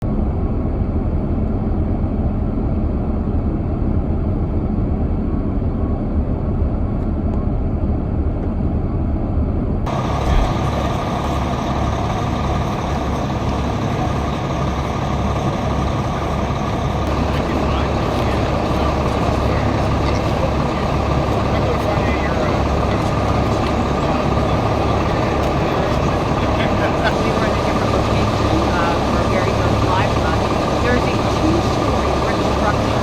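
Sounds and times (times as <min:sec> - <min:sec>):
heavy vehicle engines rumbling: 0:00.2 - 0:33.0.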